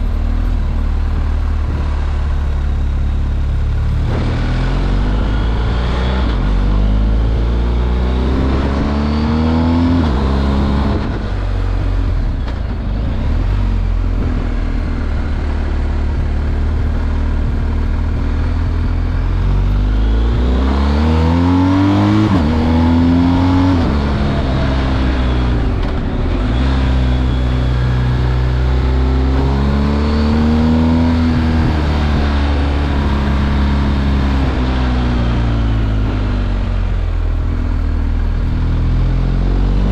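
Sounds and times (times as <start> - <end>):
motorcycle engine under throttle: 0.0 - 39.9.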